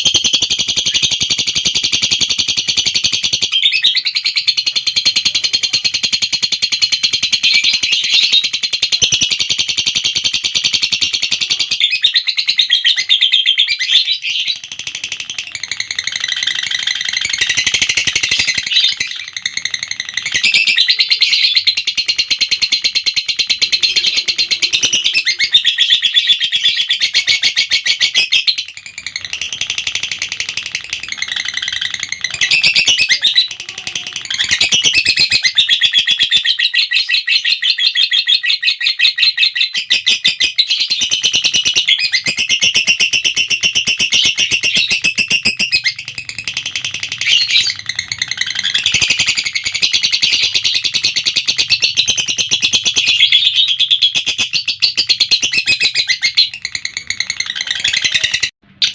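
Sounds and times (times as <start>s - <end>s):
lovebird shrill chirping: 0.2s - 58.9s.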